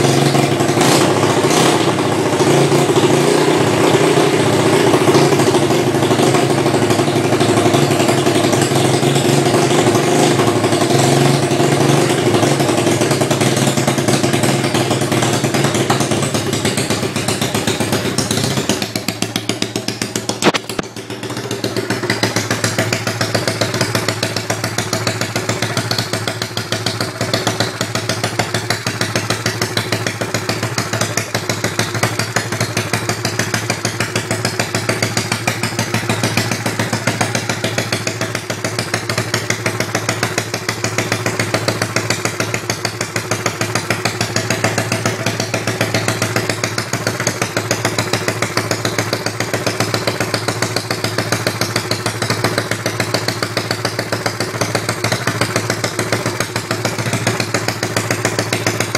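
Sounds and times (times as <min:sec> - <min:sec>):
small motorbike engine idling: 0:00.0 - 0:58.9.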